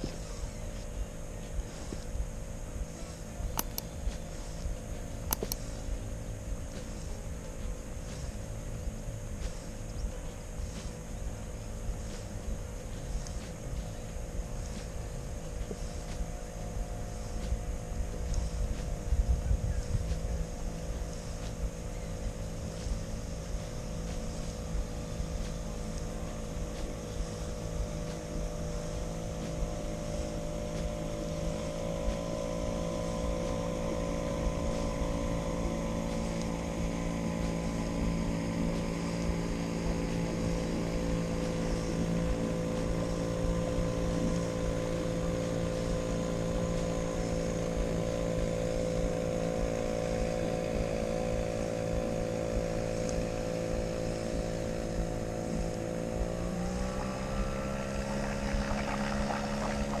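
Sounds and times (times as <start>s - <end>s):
outboard motor running: 0.0s - 60.0s.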